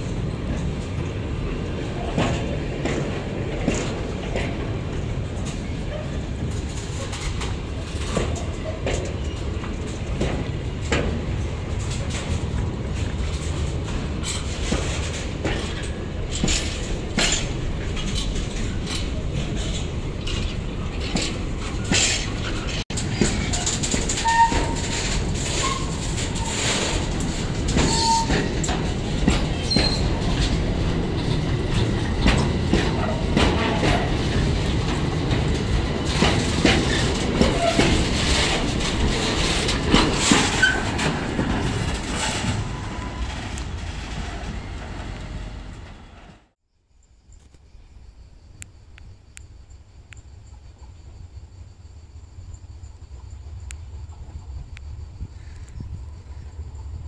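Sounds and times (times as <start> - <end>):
wheels clacking over rail joints: 0.0 - 46.5
freight train rumbling: 0.0 - 46.6, 47.8 - 57.0.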